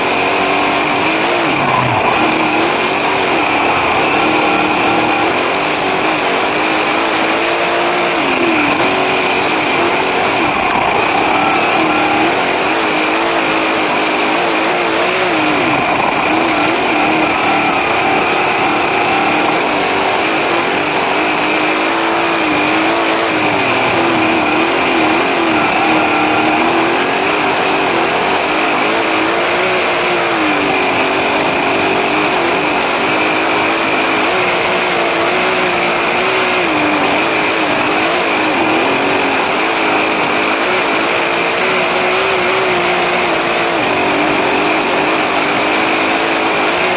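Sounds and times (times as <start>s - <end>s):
race car engine revving: 0.0s - 46.9s
steady high whine: 0.0s - 46.9s.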